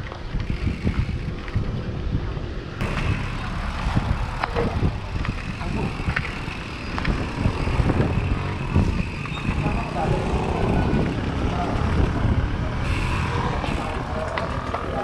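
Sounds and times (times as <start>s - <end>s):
road traffic noise: 0.0s - 15.0s
wind buffeting microphone: 0.0s - 15.0s.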